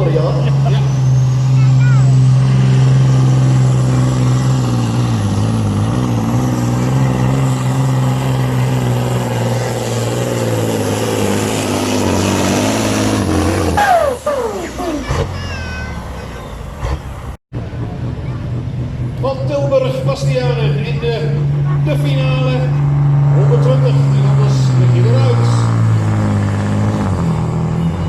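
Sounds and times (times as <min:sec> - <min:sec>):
diesel engine running hard: 0:00.0 - 0:28.0.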